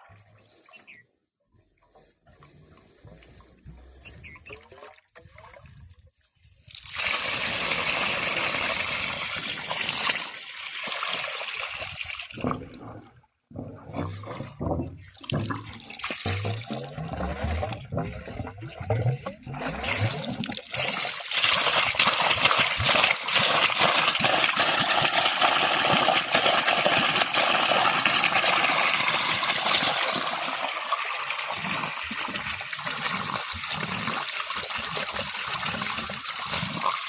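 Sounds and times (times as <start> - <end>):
water splashing and rushing: 6.8 - 37.0.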